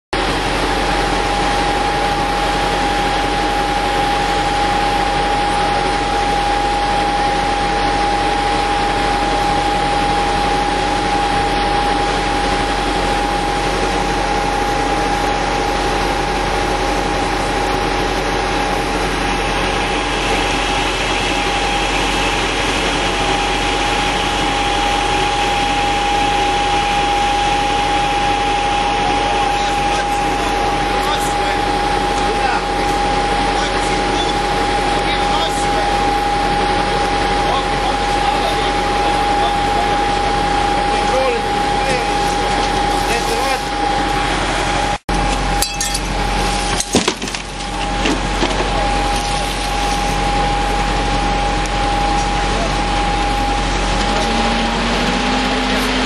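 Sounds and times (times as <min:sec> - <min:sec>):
fire engine pump engine drone: 0:00.1 - 0:56.0
steady high whine: 0:00.2 - 0:56.0.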